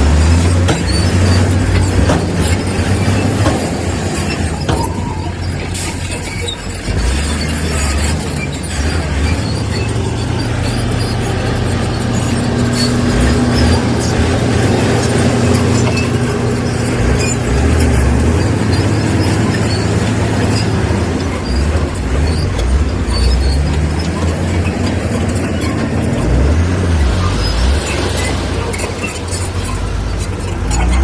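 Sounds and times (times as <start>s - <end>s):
heavy diesel machinery rumbling: 0.0s - 31.0s.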